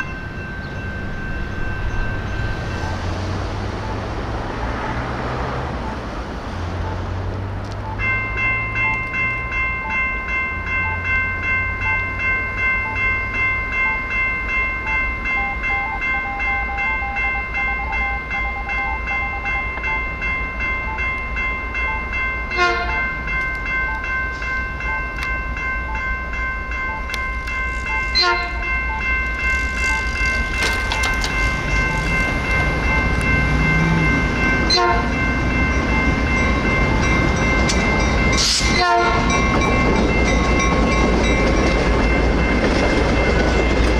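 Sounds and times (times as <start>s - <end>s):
electronic crossing bell ringing: 0.0s - 7.2s, 7.8s - 43.9s
passing train rumble: 0.0s - 43.9s
sharp train clacks: 0.0s - 43.9s.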